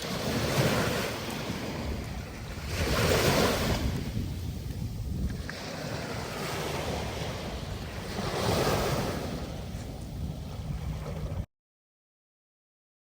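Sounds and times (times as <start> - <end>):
sea surf washing onto beach: 0.0 - 11.4
wind buffeting microphone: 0.0 - 11.5.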